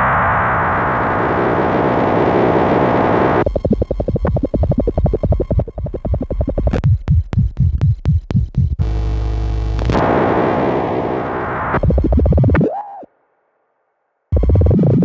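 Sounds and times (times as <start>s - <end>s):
synthesizer pulses and drone: 1.1s - 13.1s, 14.3s - 15.0s.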